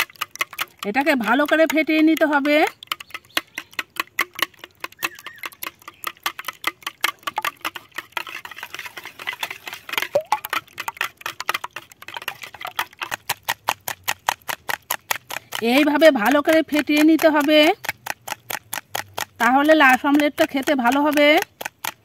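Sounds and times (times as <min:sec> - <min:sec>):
whisk beating eggs in glass bowl: 0:00.0 - 0:22.0.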